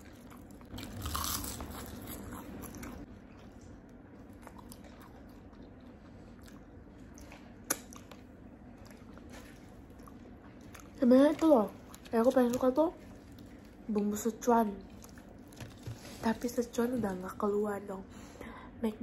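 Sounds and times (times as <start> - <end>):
crunching and chewing seaweed: 0.0 - 16.3.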